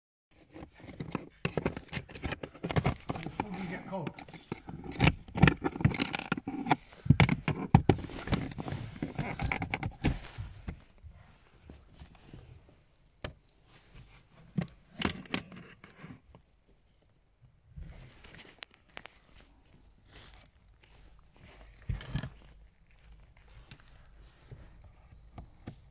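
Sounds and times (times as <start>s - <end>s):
hands rustling and scraping: 0.4s - 25.9s.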